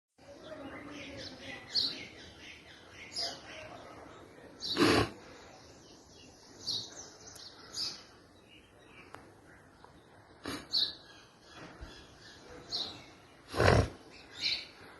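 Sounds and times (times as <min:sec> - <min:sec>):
birds chirping: 0:00.2 - 0:14.9
low outdoor background: 0:00.2 - 0:14.9.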